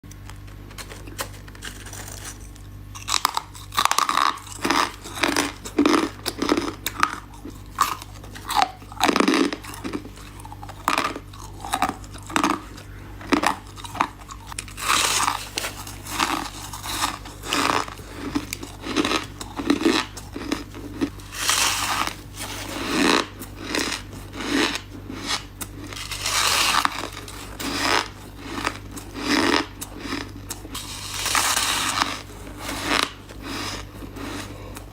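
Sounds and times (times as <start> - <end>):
person chewing ice cubes: 0.0 - 34.9.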